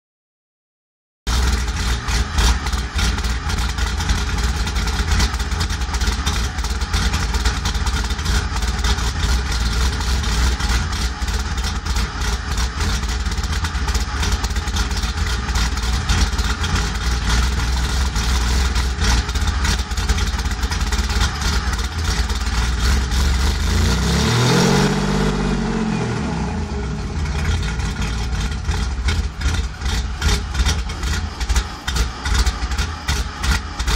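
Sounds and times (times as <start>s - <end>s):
car engine idling rough: 1.3s - 33.9s
engine revving: 1.3s - 33.9s.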